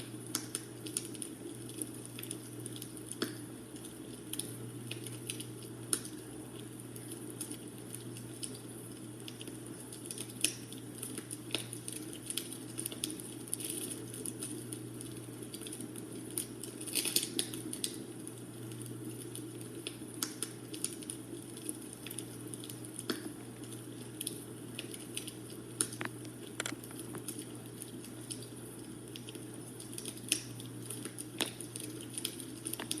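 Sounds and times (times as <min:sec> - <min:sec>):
low hiss and hum: 0:00.0 - 0:33.0
wood fire crackling and popping: 0:00.0 - 0:33.0.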